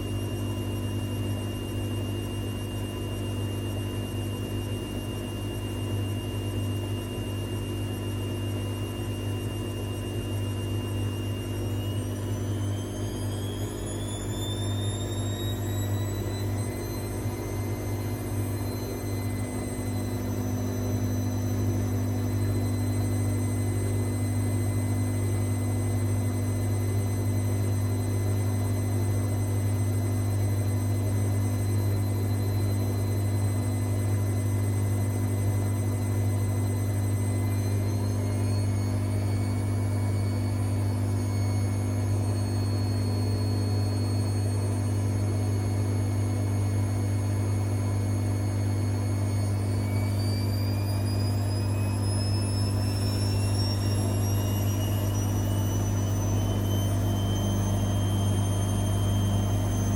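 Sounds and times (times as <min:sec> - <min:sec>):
washing machine humming and whining: 0:00.0 - 0:59.9.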